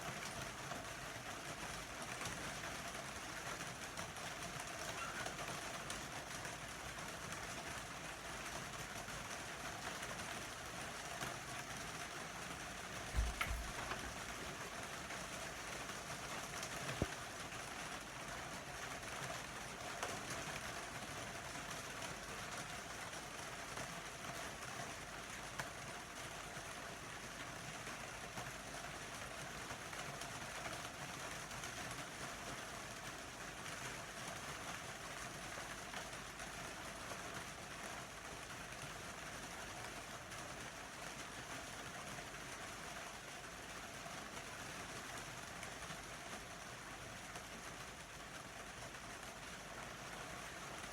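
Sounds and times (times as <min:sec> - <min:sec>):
rainfall hiss: 0:00.0 - 0:50.9.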